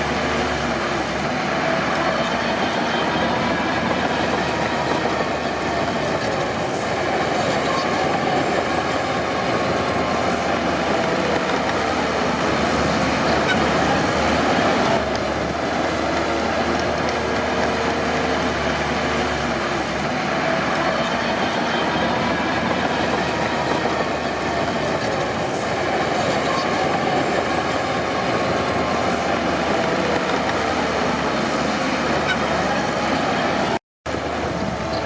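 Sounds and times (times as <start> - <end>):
diesel engine running: 0.0 - 35.0
steel tracks clattering: 0.0 - 35.0.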